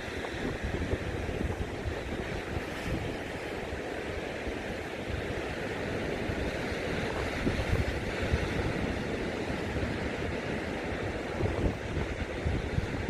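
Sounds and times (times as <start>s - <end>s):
ocean surf washing in: 0.0s - 13.0s
wind buffeting microphone: 0.0s - 13.0s.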